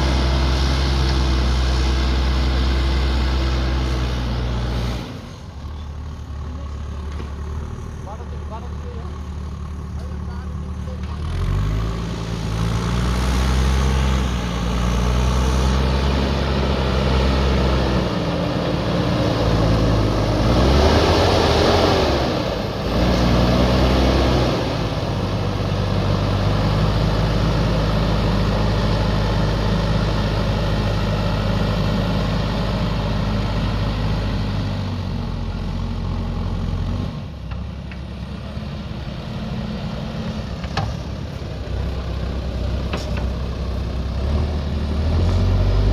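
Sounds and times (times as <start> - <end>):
diesel engine revving: 0.0 - 45.9.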